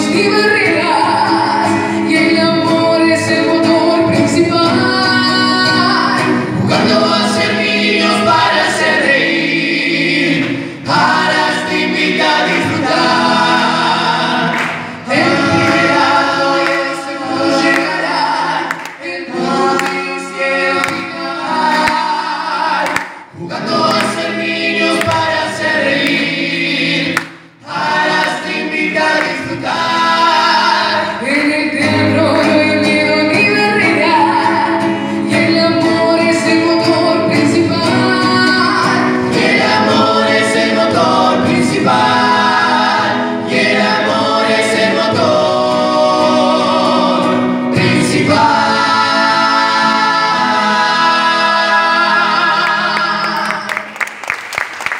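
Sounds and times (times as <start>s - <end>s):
vocal group singing in harmony: 0.0s - 54.1s
acoustic guitar: 0.0s - 54.9s.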